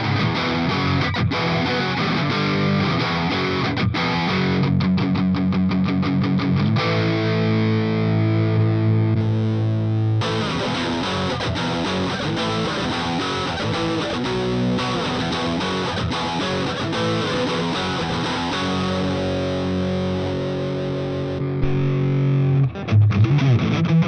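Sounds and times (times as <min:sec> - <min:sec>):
distorted electric guitar: 0:00.0 - 0:24.0.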